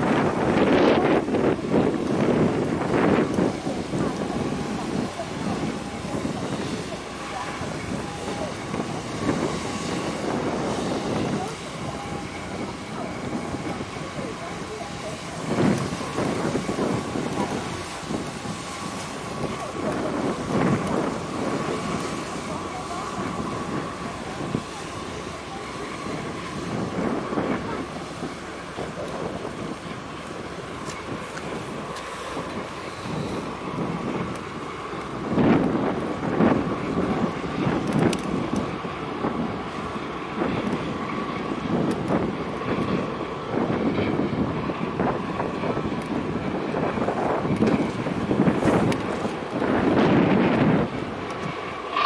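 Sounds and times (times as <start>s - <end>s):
boat engine running: 0.0s - 52.0s
rushing water: 0.0s - 52.0s
wind buffeting microphone: 0.0s - 52.0s.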